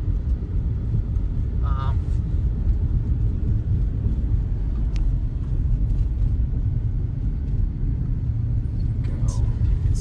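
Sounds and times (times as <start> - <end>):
car driving on road: 0.0 - 10.0.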